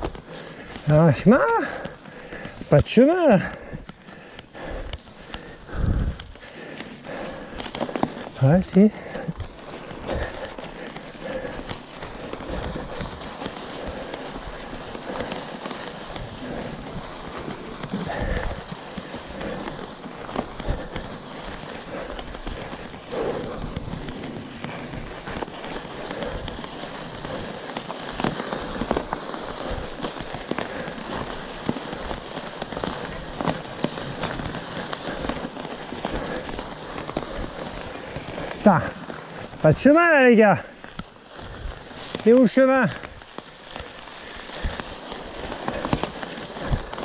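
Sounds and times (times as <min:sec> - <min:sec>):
bike tyres crackling on rough ground: 0:00.0 - 0:47.0.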